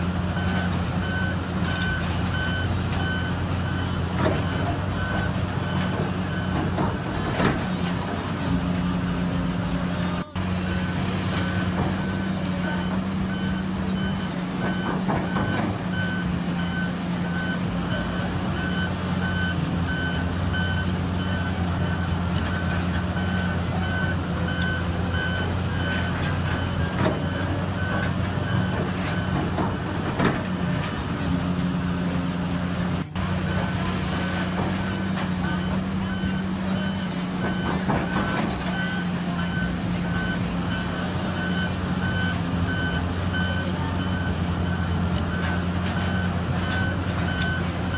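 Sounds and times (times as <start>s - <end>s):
reversing alarm beeping: 0.0s - 8.2s, 8.8s - 30.5s, 33.2s - 47.9s
heavy diesel engines running: 0.0s - 47.9s.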